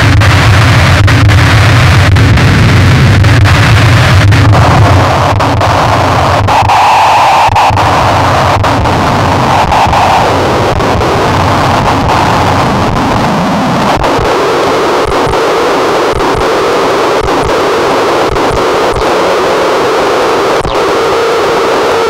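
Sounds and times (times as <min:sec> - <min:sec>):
distorted electronic noise: 0:00.0 - 0:22.0.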